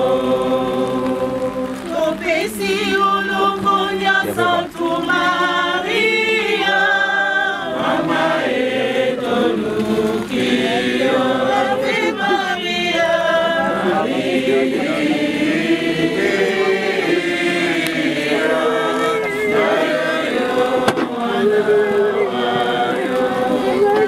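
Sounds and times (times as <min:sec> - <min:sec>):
people singing a hymn: 0:00.0 - 0:24.0.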